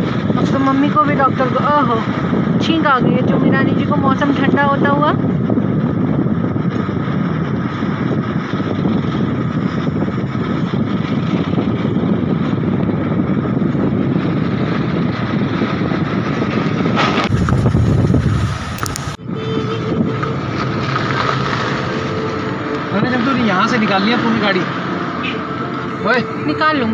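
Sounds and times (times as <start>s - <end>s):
car road noise: 0.0s - 26.9s
rushing wind: 0.0s - 26.9s.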